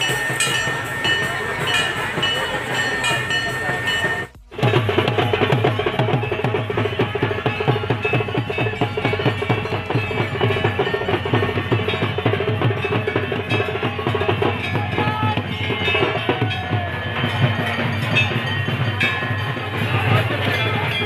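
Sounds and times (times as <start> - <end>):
group of drums drumming: 0.0 - 21.0.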